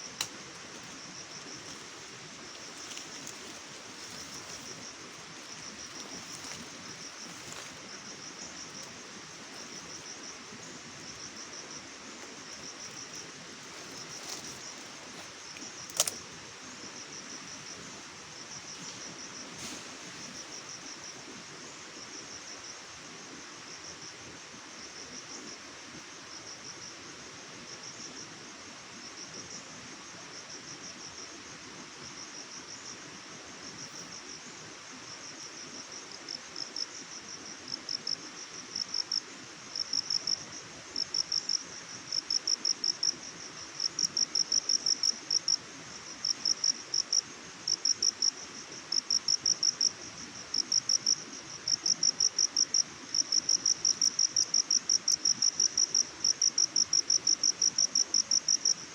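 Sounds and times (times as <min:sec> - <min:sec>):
crickets chirping: 0:00.0 - 0:58.9
soft steady hiss: 0:00.0 - 0:58.9.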